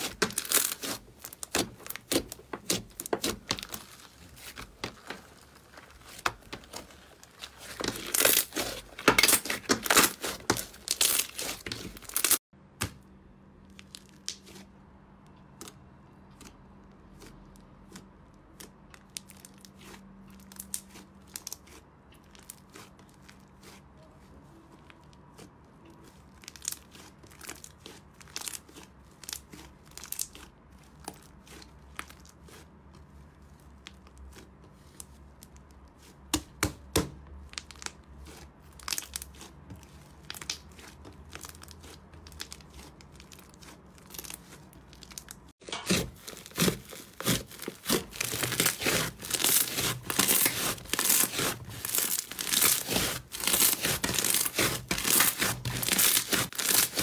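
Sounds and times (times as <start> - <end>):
slime crackling and tearing: 0.0 - 12.5, 13.6 - 57.0.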